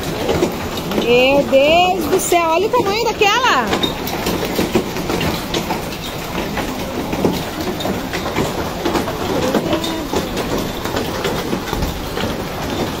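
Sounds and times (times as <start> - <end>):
hailstones clattering: 0.0 - 13.0.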